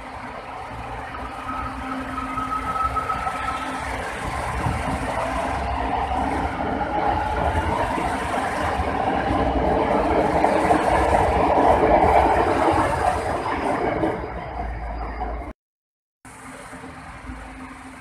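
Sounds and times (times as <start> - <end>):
train whine: 0.0 - 15.5, 16.3 - 18.0
wheels rumbling on rail: 0.0 - 15.5, 16.3 - 18.0.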